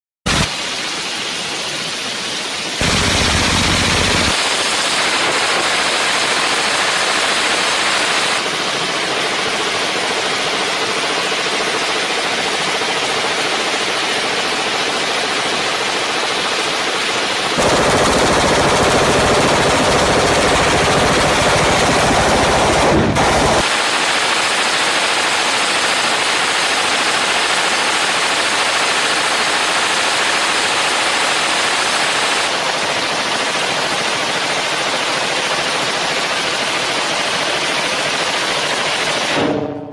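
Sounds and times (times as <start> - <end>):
suppressed machine gun firing: 2.8 - 39.9.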